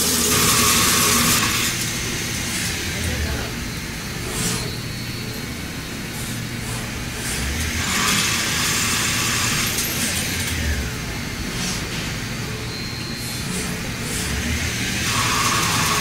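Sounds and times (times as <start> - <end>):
metal cutting hiss: 0.0 - 16.0
falling whine: 0.1 - 16.0
spindle hum: 0.2 - 16.0.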